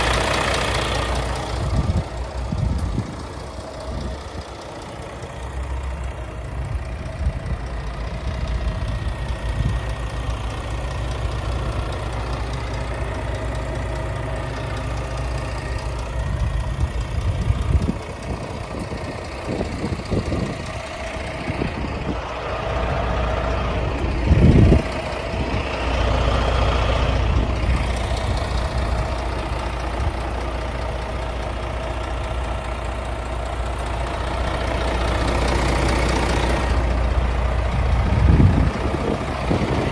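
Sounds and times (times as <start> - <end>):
diesel truck engine idling: 0.0 - 39.9
loud low engine burst: 0.0 - 39.9.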